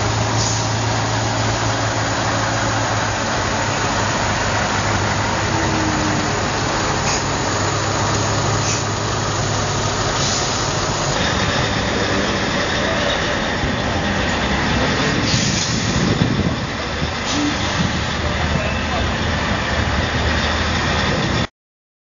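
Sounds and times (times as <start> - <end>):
heavy truck diesel engines: 0.0 - 21.5.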